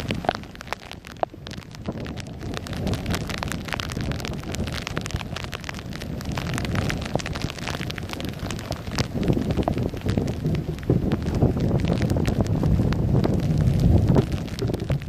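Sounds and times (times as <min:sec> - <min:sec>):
raindrops ticking on microphone: 0:00.0 - 0:15.0
steady low rumble: 0:00.0 - 0:15.0.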